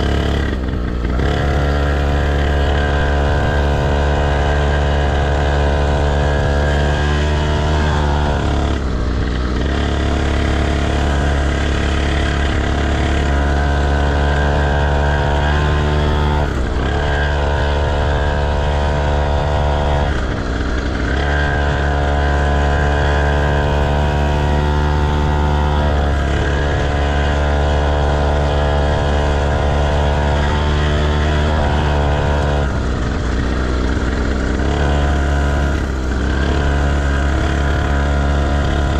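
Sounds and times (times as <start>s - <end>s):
motocross bike engine: 0.0s - 38.9s.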